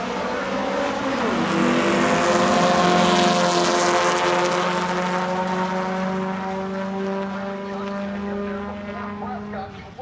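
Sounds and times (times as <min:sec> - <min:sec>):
drag car engine at full throttle: 0:00.0 - 0:10.0.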